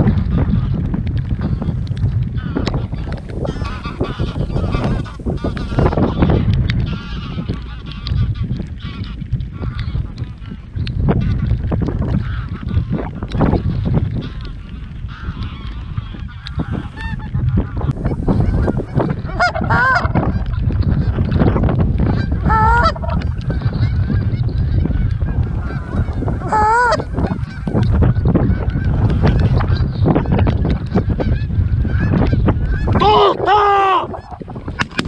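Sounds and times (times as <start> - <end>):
geese honking in flight: 2.4 - 10.2, 12.2 - 34.9.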